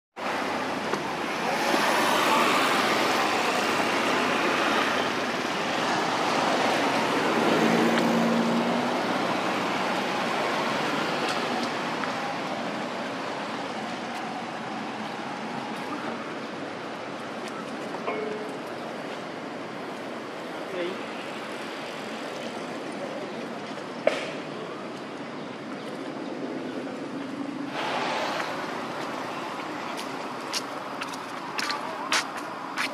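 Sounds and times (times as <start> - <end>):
steady outdoor roar: 0.2 - 32.9.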